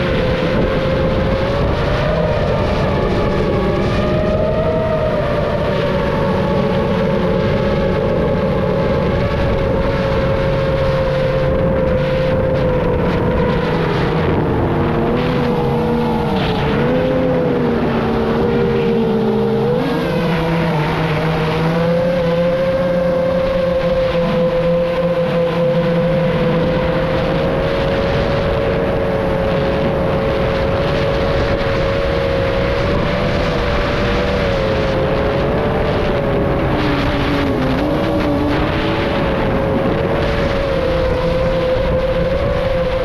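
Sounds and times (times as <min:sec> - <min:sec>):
drone motors whining: 0:00.0 - 0:43.0
wind noise: 0:00.0 - 0:43.0.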